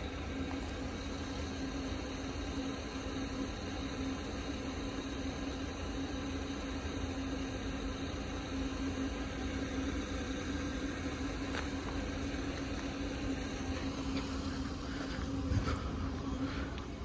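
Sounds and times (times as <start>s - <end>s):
vehicles idling: 0.0s - 17.0s.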